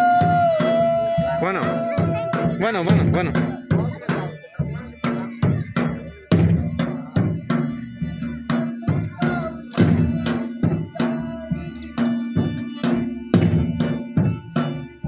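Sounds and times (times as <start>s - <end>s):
drum beaten in fast rhythm: 0.0s - 15.0s.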